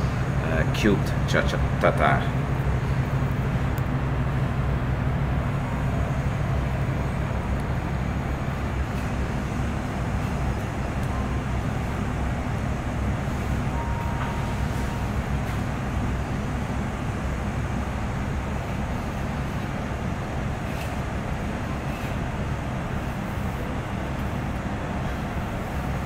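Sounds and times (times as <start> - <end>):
ventilation hum: 0.0 - 26.0.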